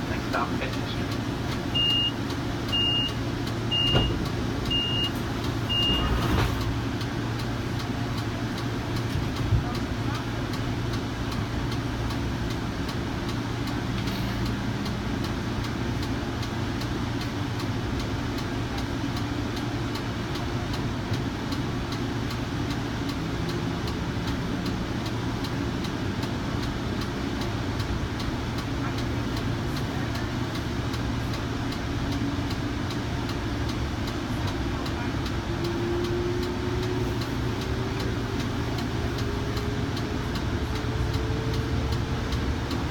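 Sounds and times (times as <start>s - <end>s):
rumble of train motors and wheels: 0.0s - 42.9s
light regular ticking: 0.3s - 3.6s, 6.6s - 42.9s.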